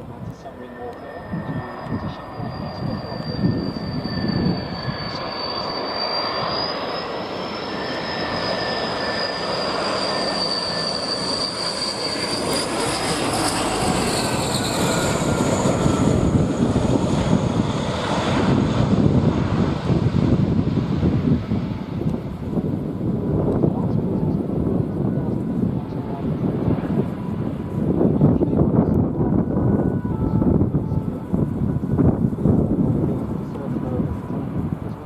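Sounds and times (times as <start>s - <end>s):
propeller rumble: 0.0s - 35.0s
turboprop engine whine: 0.0s - 35.0s.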